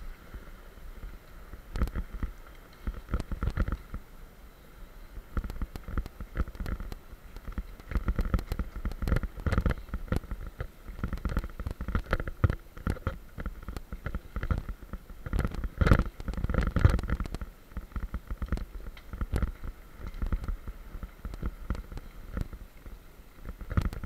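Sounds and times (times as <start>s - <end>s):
bike knocking and rattling: 0.0s - 4.1s, 5.2s - 24.0s.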